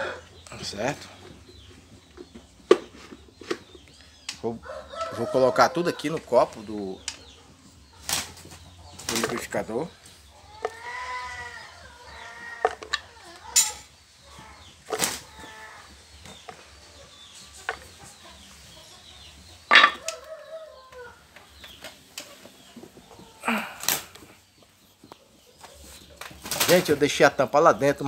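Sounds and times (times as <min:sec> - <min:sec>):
birdlike calls: 0:00.0 - 0:28.0.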